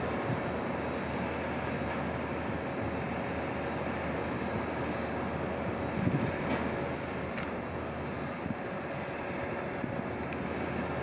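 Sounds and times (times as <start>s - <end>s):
faint steady whine: 0.0s - 11.0s
steady background drone: 0.0s - 11.0s.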